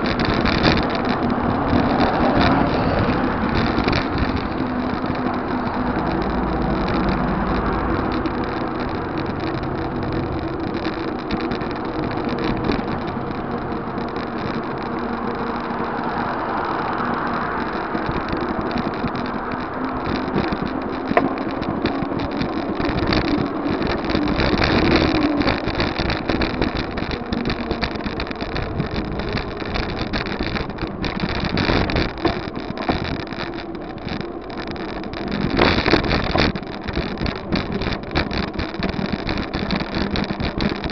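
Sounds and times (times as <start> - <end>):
bike knocks and rattles: 0.0 - 40.9
wind buffeting microphone: 0.0 - 40.9.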